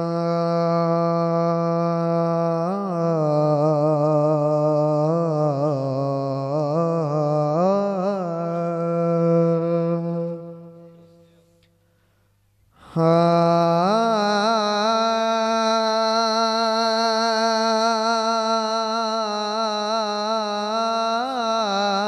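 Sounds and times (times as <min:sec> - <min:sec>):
man singing long melismatic note: 0:00.0 - 0:11.4, 0:12.8 - 0:22.0.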